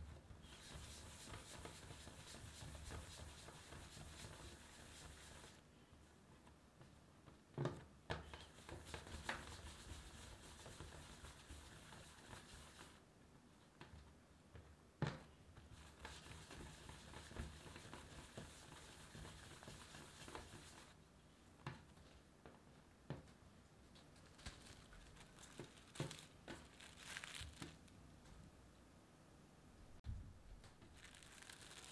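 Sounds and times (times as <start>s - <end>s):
hands rolling dough: 0.0s - 28.4s, 30.6s - 31.9s.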